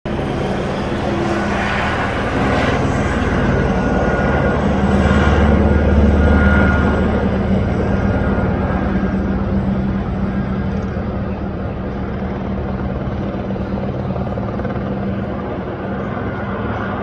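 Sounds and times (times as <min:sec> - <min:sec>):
helicopter engine drone: 0:00.1 - 0:17.0
helicopter rotor beating: 0:00.1 - 0:17.0.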